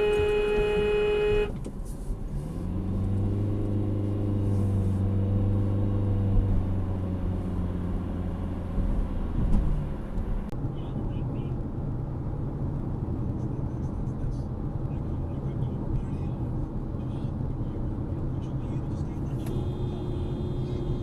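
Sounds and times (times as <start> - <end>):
road noise: 0.0 - 21.0
vehicle engine droning: 0.0 - 21.0.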